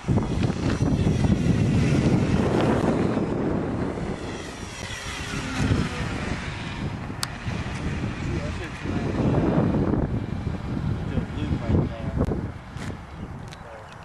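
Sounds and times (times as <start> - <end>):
model airplane motor buzzing: 0.0 - 14.0
wind buffeting microphone: 0.0 - 14.0.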